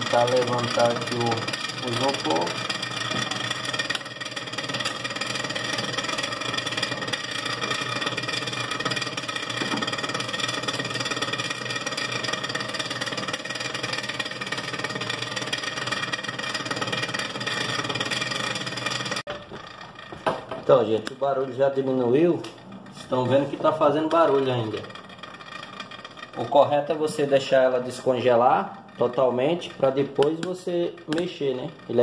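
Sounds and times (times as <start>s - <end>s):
fan blades scraping on ice: 0.0s - 32.0s.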